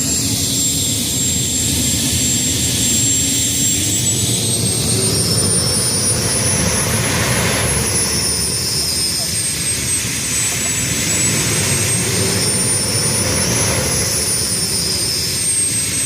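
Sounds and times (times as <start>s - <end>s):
jet turbine engine whine: 0.0s - 16.0s.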